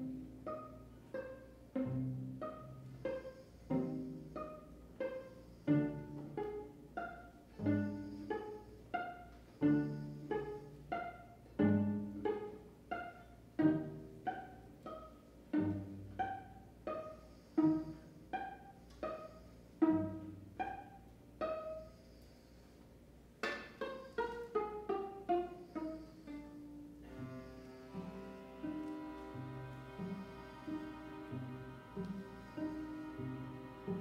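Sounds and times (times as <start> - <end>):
string quartet playing pizzicato: 0.0 - 34.0.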